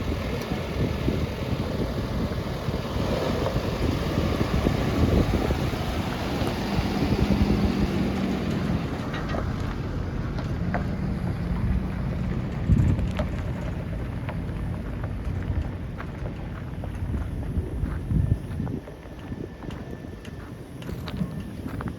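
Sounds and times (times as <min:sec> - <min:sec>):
truck engine idling: 0:00.0 - 0:21.9
wind buffeting microphone: 0:00.0 - 0:21.9.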